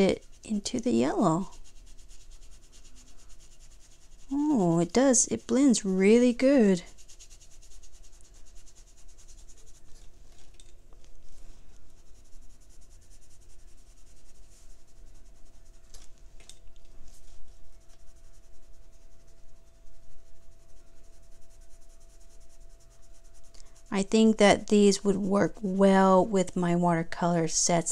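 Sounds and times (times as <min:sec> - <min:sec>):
paintbrush scratching on paper: 0:00.0 - 0:25.8
faint steady hum: 0:00.0 - 0:27.9.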